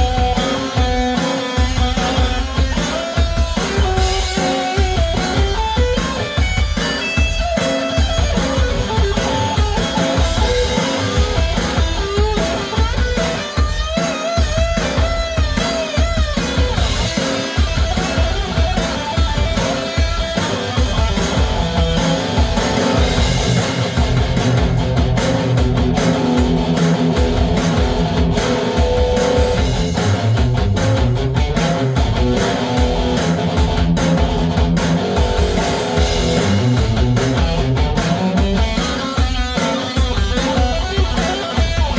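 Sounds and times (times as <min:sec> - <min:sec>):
drum beat: 0:00.0 - 0:41.9
electric guitar playing: 0:00.0 - 0:41.9.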